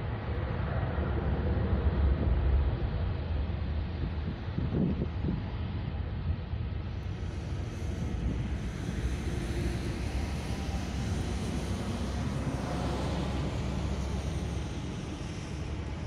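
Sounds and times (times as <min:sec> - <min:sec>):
distant jet engine rumble: 0:00.0 - 0:16.0.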